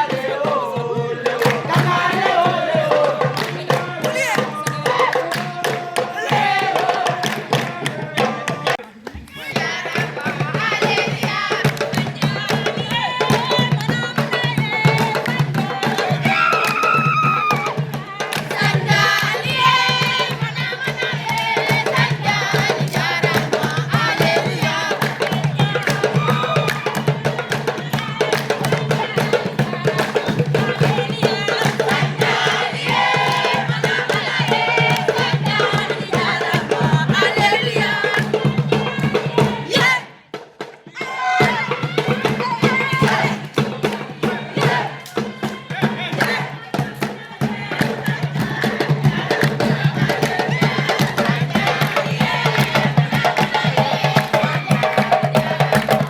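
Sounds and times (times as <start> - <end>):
group singing: 0.0 - 56.0
percussion beat: 0.0 - 56.0.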